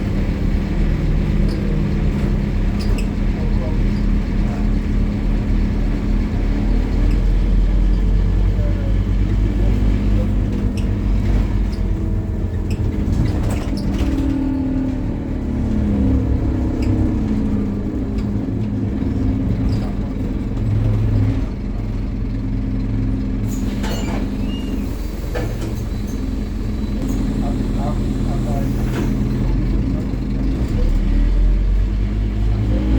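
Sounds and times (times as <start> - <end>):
bus engine running under load: 0.0 - 32.9.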